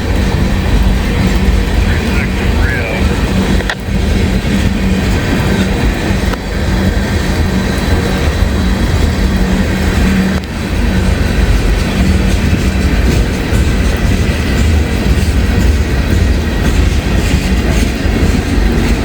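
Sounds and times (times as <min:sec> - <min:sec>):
low train rumble: 0:00.0 - 0:19.0
train wheels clattering over rails: 0:00.0 - 0:19.0.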